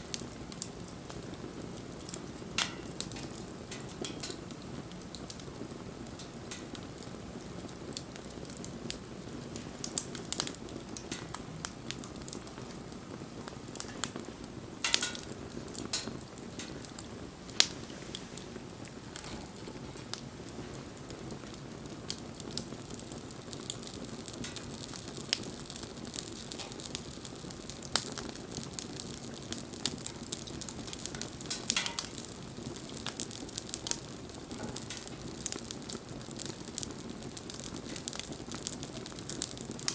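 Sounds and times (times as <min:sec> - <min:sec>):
bonfire flames rushing: 0:00.0 - 0:39.9
burning wood crackling and popping: 0:00.0 - 0:39.9.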